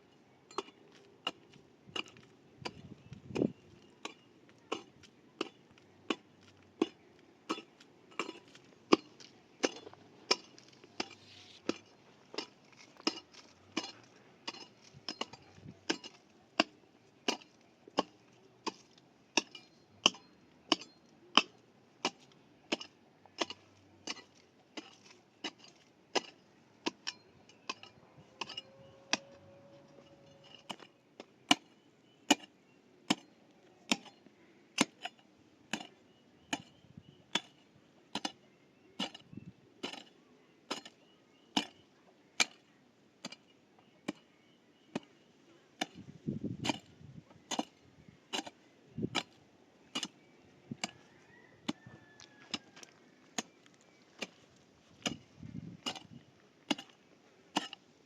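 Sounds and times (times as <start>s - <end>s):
hand tool striking hard material: 0.5s - 34.2s, 34.8s - 44.3s, 44.9s - 45.2s, 45.8s - 51.0s, 53.4s - 54.4s, 55.0s - 57.9s.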